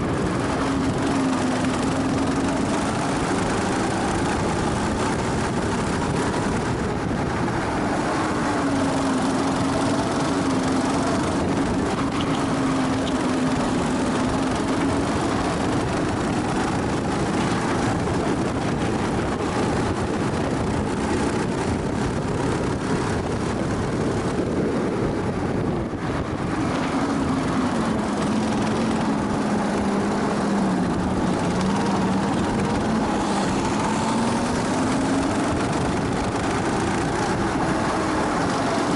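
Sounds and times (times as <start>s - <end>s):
go-kart engine revving: 0.0s - 38.9s
wind and road noise: 0.0s - 38.9s.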